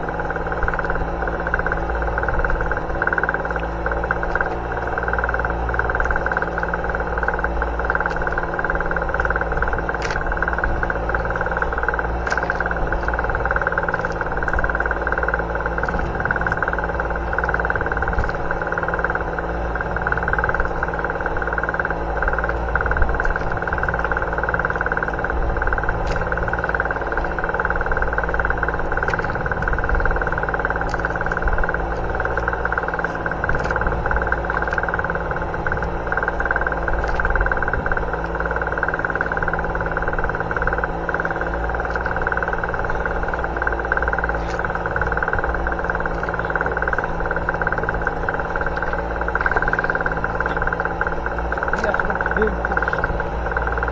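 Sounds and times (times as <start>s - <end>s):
boat engine droning: 0.0s - 53.9s
faint clicks: 0.3s - 53.9s.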